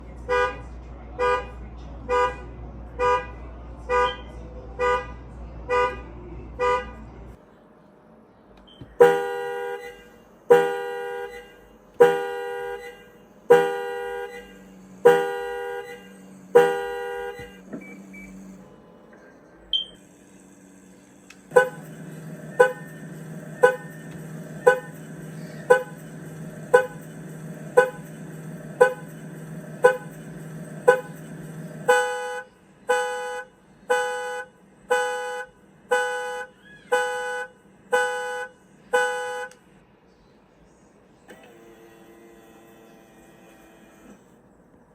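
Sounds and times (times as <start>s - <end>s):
car alarm horn honking: 0.3s - 7.1s, 8.7s - 18.6s, 19.7s - 39.6s.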